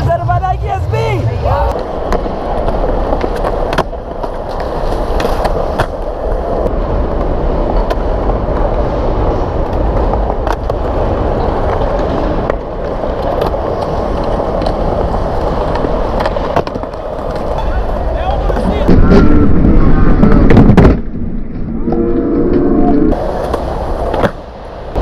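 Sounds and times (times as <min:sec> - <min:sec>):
skateboard wheels rolling on concrete: 0:00.0 - 0:25.0
skateboard clacks: 0:01.6 - 0:21.1, 0:23.2 - 0:25.0.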